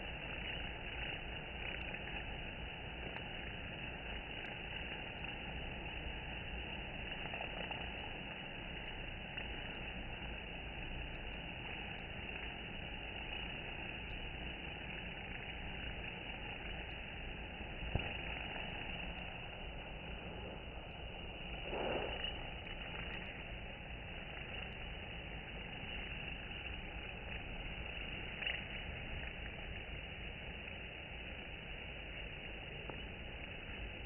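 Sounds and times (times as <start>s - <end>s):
low hum of bee hive: 0.0s - 34.0s.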